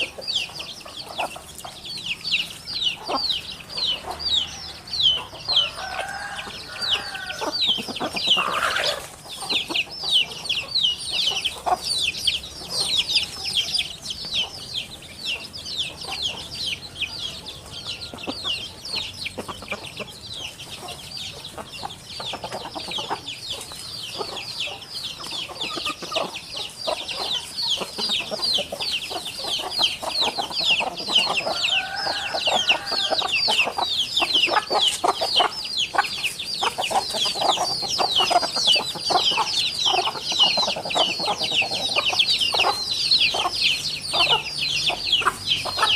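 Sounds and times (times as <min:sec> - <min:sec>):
many birds chirping: 0:00.0 - 0:45.9.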